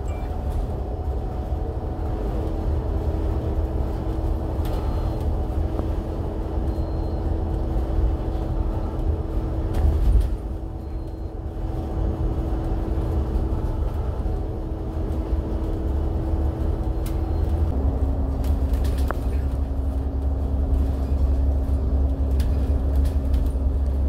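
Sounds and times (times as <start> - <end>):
bus engine and road rumble: 0.0 - 24.0
constant hum: 0.0 - 24.0.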